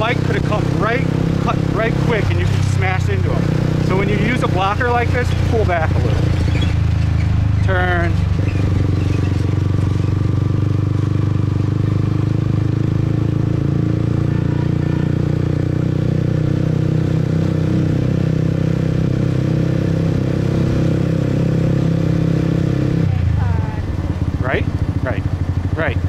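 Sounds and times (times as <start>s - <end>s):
motorbike engine running: 0.0s - 26.0s
road noise: 0.0s - 26.0s.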